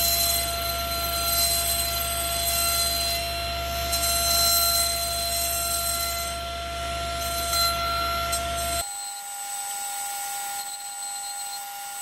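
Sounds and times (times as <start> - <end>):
foam mat cut by saw blade: 0.0 - 12.0
table saw whining: 0.0 - 12.0.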